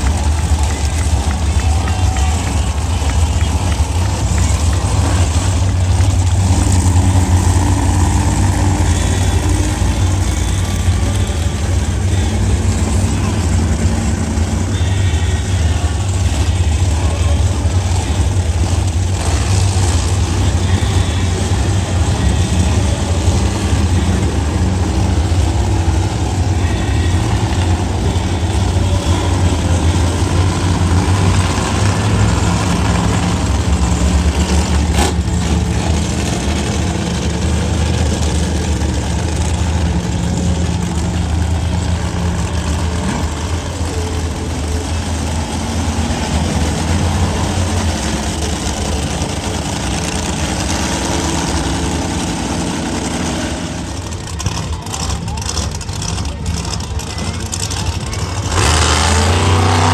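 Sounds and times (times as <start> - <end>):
truck engines idling: 0.0 - 59.9.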